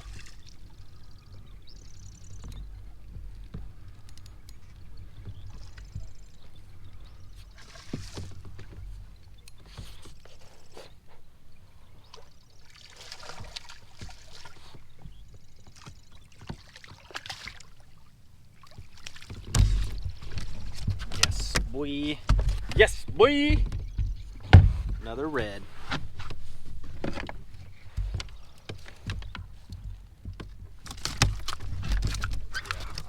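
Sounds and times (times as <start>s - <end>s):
water splashing and sloshing: 0.0s - 33.0s.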